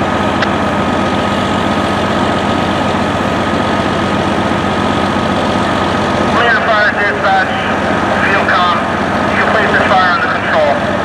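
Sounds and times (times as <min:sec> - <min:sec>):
thin steady whine: 0:00.0 - 0:11.0
truck engine idling: 0:00.0 - 0:11.0.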